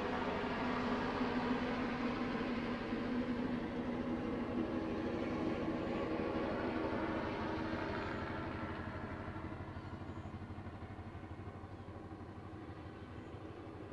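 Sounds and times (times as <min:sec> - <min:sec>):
helicopter rotor chop: 0:00.0 - 0:13.9.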